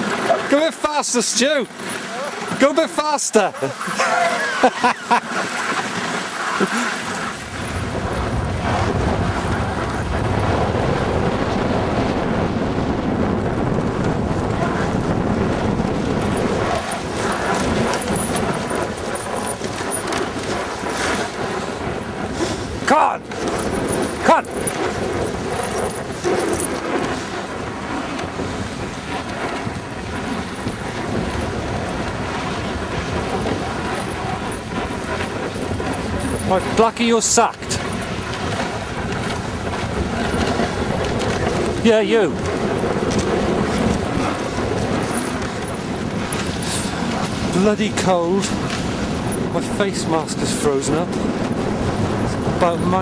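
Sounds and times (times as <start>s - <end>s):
dog sled gliding over snow: 0.0s - 53.0s
wind buffeting microphone: 6.6s - 53.0s.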